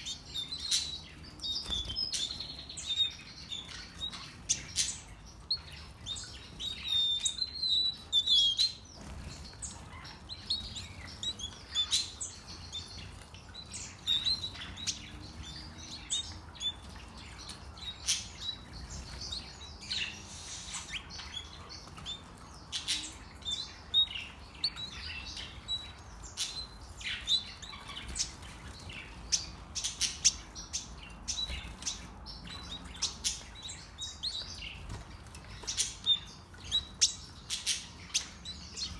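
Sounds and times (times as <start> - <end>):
finches chirping and twittering: 0.0 - 38.9.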